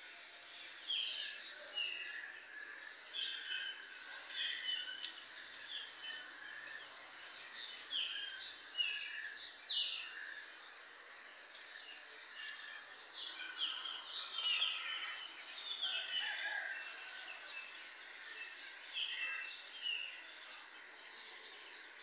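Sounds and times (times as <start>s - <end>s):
faint steady hiss: 0.0s - 22.0s
small birds chirping: 0.0s - 22.0s.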